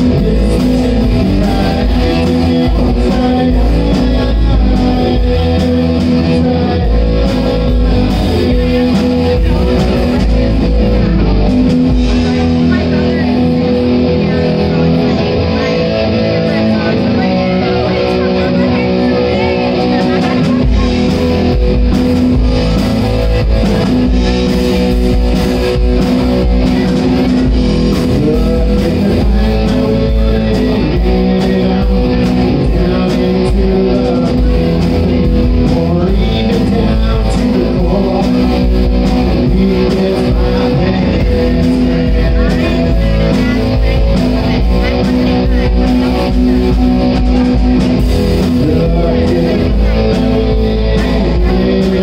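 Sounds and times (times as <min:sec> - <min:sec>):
bass guitar: 0:00.0 - 0:52.0
drum kit: 0:00.0 - 0:52.0
electric guitar: 0:00.0 - 0:52.0.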